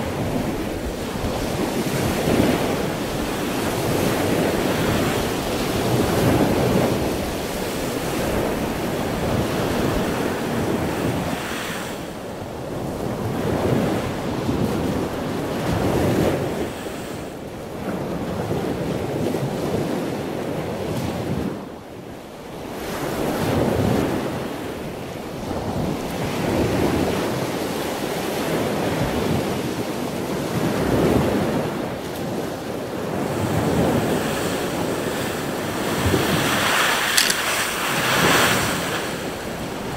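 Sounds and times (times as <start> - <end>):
wind buffeting microphone: 0.0 - 21.8, 22.5 - 39.9
storm surf breaking on beach: 0.0 - 39.9.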